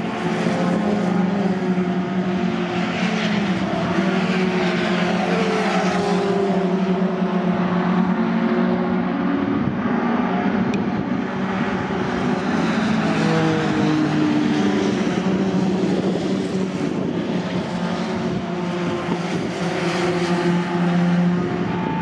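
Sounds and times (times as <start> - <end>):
racing truck engines passing: 0.0 - 22.0.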